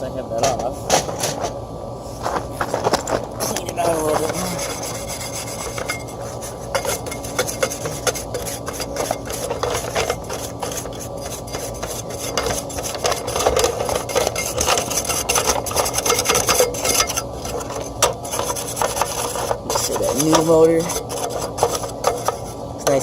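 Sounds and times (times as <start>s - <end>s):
dirt being scraped off: 4.1s - 23.0s.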